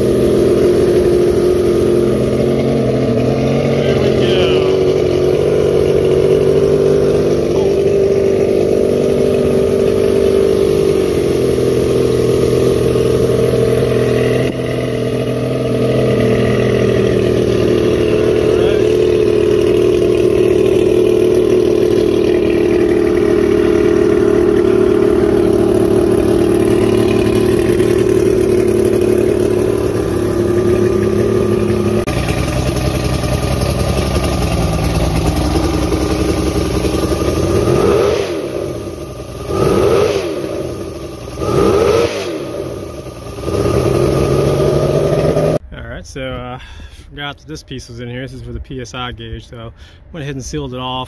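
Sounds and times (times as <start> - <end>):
outboard motor running: 0.0 - 45.7.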